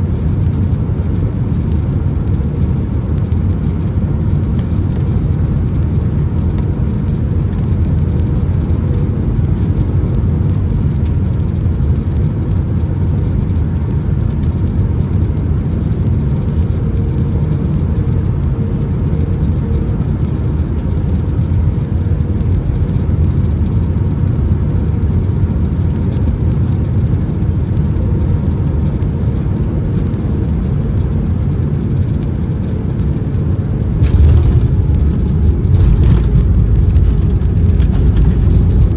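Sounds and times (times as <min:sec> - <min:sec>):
faint steady hum: 0:00.0 - 0:38.9
jet engines roaring in cabin: 0:00.0 - 0:38.9.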